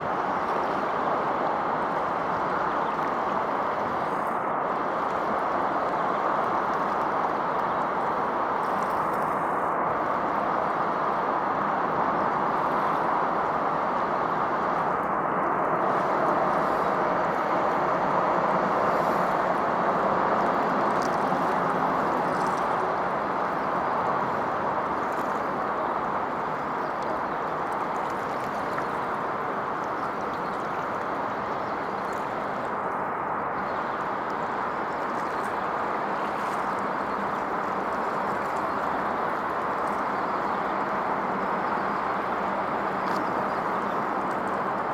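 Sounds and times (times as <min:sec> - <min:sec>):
rushing outdoor noise: 0:00.0 - 0:44.9.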